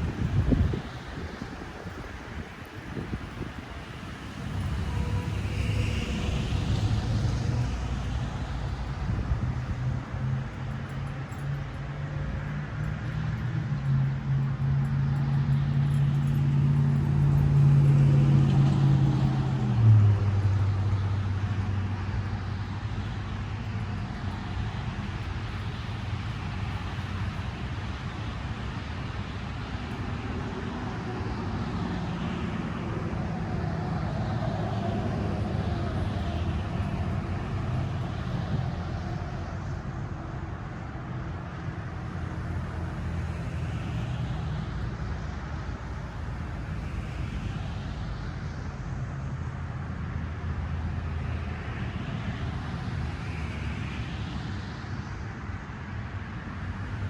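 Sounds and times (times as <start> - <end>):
vehicle engine humming: 0.0 - 52.9
road traffic noise: 0.0 - 57.0.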